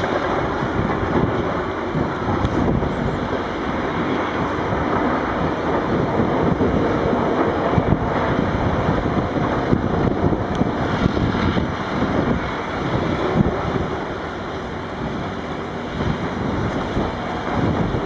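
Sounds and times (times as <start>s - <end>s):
heavy diesel machinery rumbling: 0.0s - 18.0s
wind buffeting microphone: 0.0s - 18.0s.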